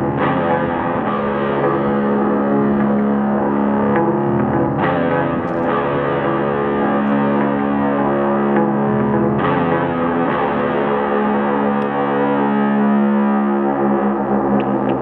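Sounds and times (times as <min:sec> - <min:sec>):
distorted electric guitar drone: 0:00.0 - 0:15.0.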